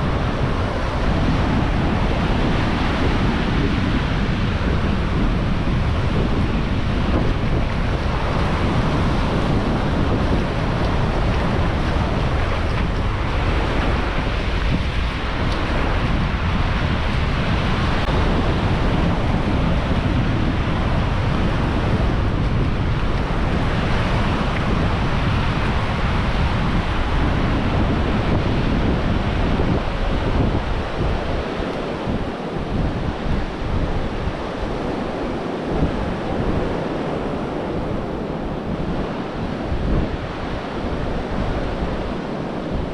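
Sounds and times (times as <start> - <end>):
ocean surf washing on beach: 0.0 - 42.9
wind buffeting microphone: 0.0 - 42.9.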